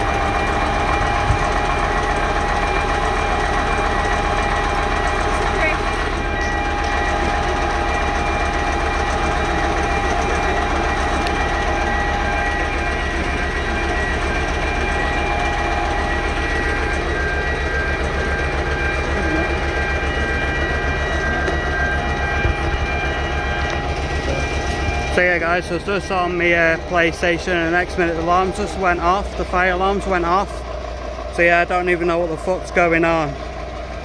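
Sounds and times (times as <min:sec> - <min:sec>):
fire alarm ringing: 0:00.0 - 0:30.0.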